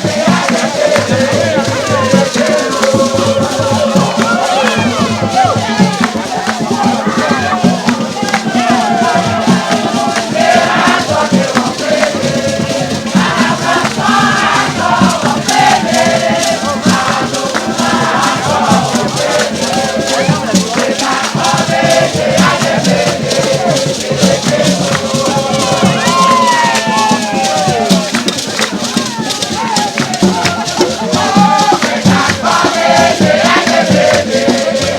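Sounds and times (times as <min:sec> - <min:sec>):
group of voices singing: 0:00.0 - 0:34.9
shakers rattling: 0:00.0 - 0:34.9.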